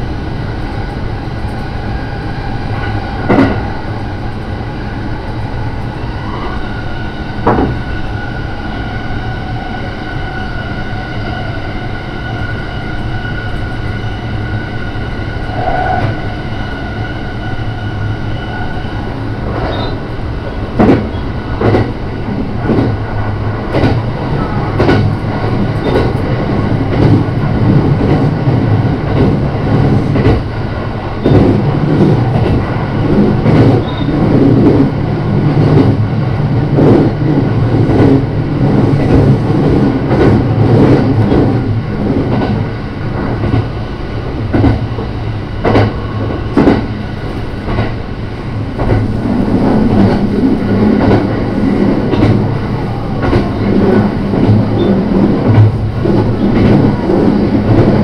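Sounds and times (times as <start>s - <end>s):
train low hum: 0.0s - 58.0s.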